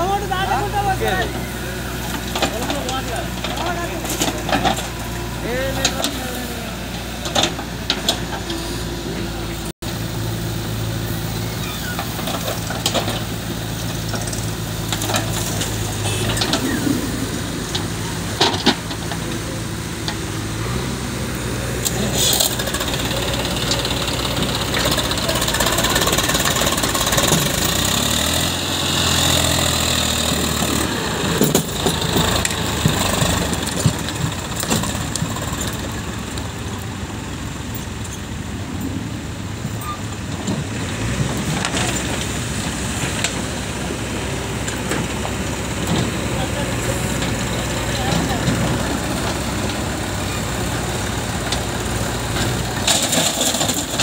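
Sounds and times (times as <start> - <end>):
backhoe loader diesel engine: 0.0 - 54.0
knocks and clatter of soil and metal: 0.0 - 54.0
tractor engine running: 0.0 - 54.0.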